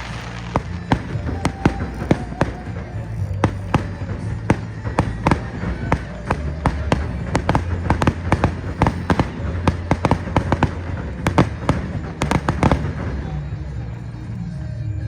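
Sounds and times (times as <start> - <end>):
fireworks bangs and pops: 0.0 - 13.6
low rumble: 0.0 - 15.0.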